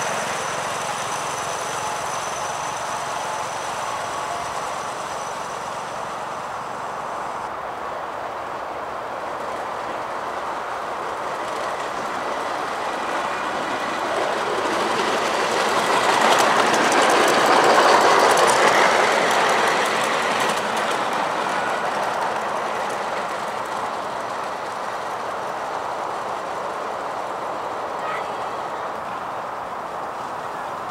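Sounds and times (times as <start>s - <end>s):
miniature train wheels rumbling on rails: 0.0s - 30.9s.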